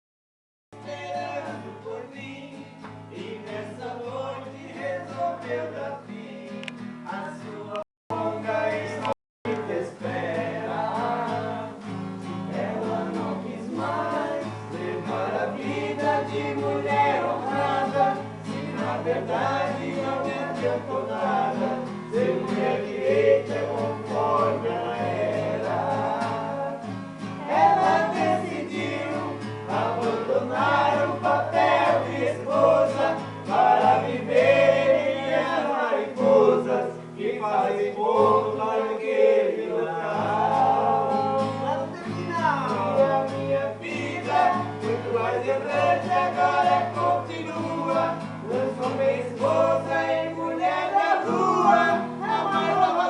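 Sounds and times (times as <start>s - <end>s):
plucked guitar: 0.8s - 37.6s, 40.1s - 53.0s
voices singing together: 0.8s - 53.0s.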